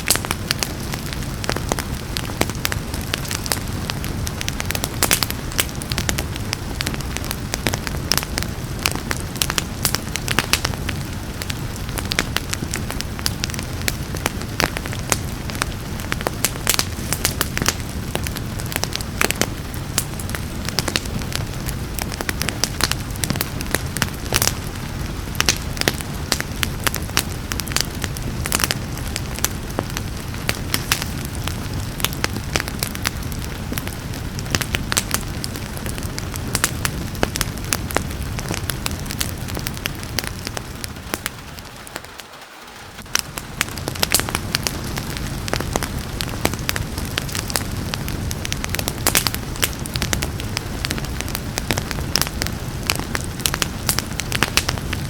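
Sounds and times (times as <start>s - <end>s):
rain hissing: 0.0s - 55.0s
wood fire crackling and popping: 0.0s - 55.0s.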